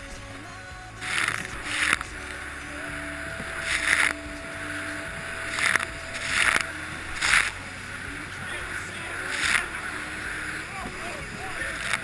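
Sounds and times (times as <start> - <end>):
jet ski engine rumble: 0.0 - 12.0
water rushing and spraying: 0.0 - 12.0.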